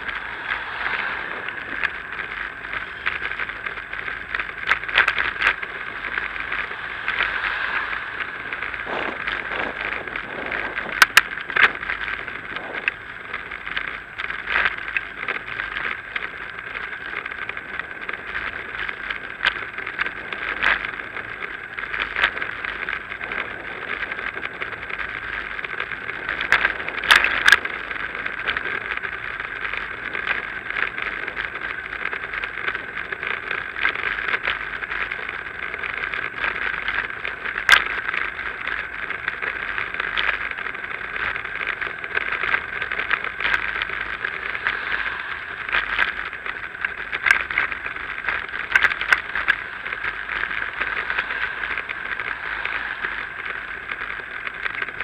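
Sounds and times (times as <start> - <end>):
bicycle rolling on pavement: 0.0 - 55.0
bike clicks and knocks on bumps: 0.0 - 55.0.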